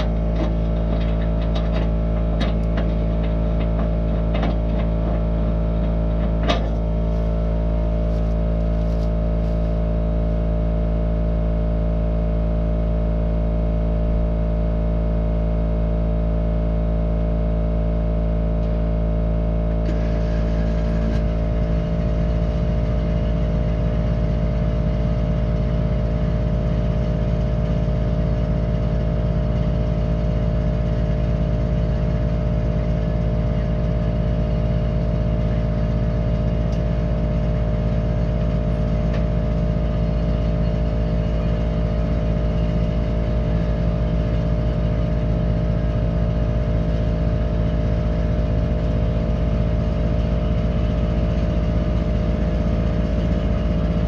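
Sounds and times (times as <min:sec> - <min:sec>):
engine running with low hum: 0:00.0 - 0:54.0.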